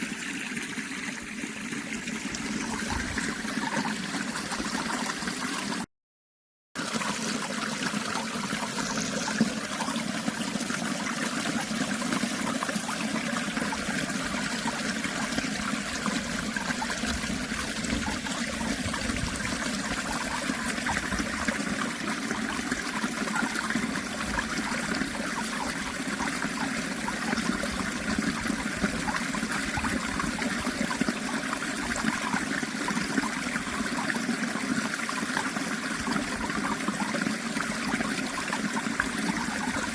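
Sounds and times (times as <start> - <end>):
stream flowing water: 0.0 - 5.9, 6.8 - 39.9.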